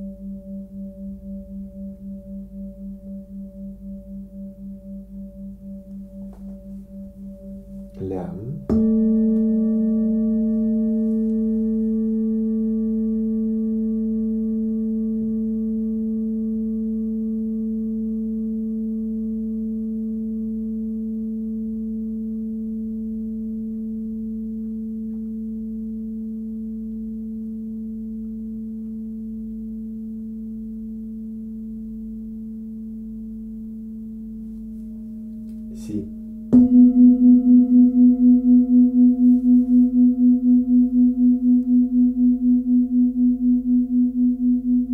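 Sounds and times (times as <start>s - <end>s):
second bowl pulsing higher note: 0.0s - 44.9s
singing bowl ringing: 0.0s - 44.9s.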